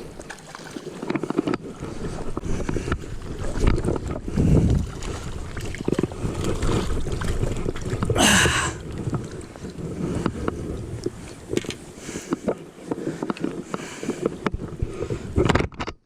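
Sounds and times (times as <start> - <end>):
river water flowing: 0.0 - 14.4
wind buffeting microphone: 1.3 - 15.7.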